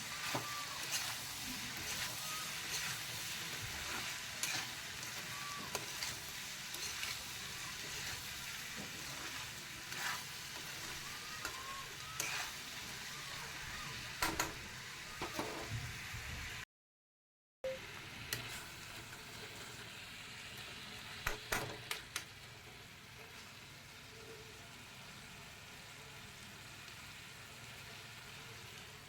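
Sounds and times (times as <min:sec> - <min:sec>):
chicken sizzling in a pan: 0:00.0 - 0:16.6, 0:17.8 - 0:29.0.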